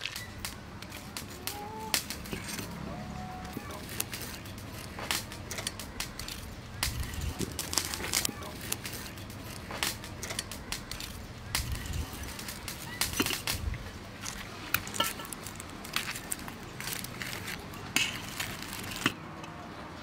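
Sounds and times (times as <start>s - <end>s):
fried noodles crackling and crunching: 0.0s - 19.4s.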